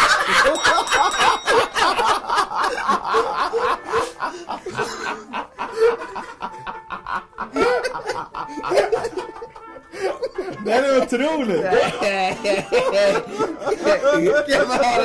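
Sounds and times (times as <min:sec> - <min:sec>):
men laughing: 0:00.0 - 0:15.0.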